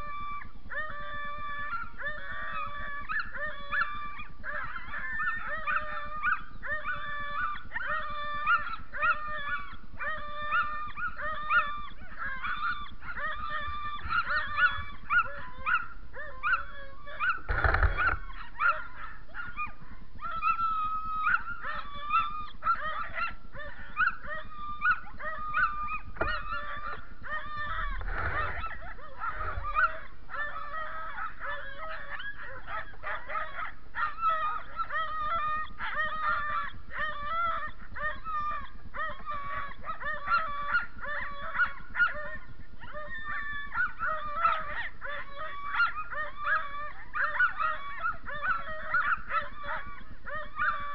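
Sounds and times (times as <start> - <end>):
sled dogs barking and yelping: 0.0 - 50.9.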